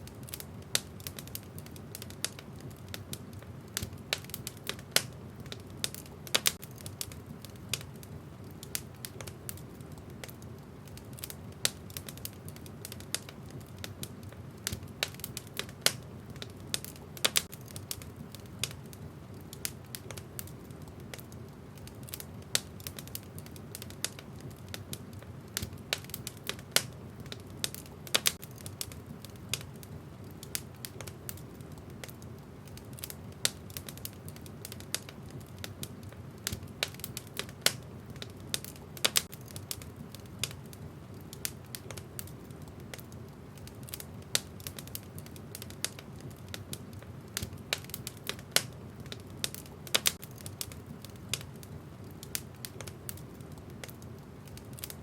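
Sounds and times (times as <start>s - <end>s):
sharp pops and snaps: 0.0s - 55.0s
wood fire crackling: 0.0s - 55.0s.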